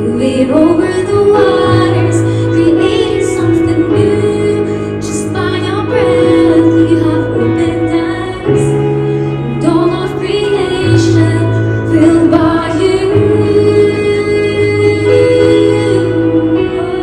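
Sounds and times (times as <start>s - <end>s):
sustained chords: 0.0s - 17.0s
woman singing slow melody: 0.0s - 17.0s.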